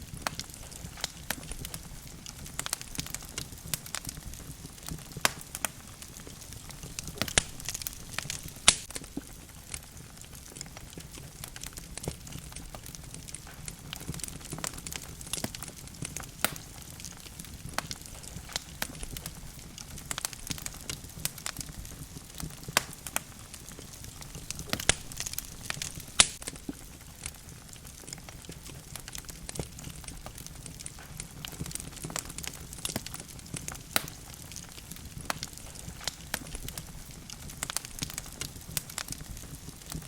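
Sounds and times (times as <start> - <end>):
logs crackling and popping: 0.0 - 40.0
low rush of flames: 0.0 - 40.0.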